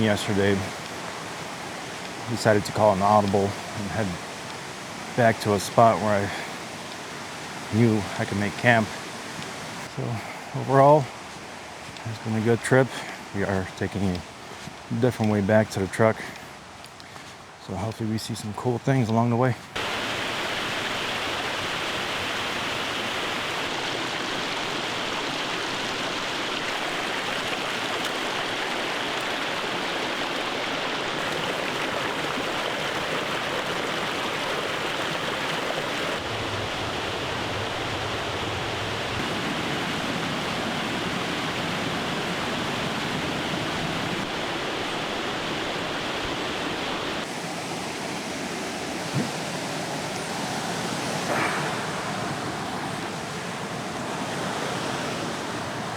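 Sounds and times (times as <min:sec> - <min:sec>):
mountain stream rushing: 0:00.0 - 0:55.9.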